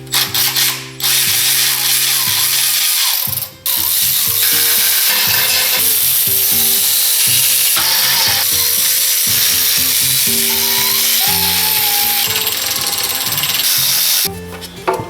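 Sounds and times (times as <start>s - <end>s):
ratchet clicking and rattling: 0.0s - 14.3s
background music: 0.0s - 15.0s.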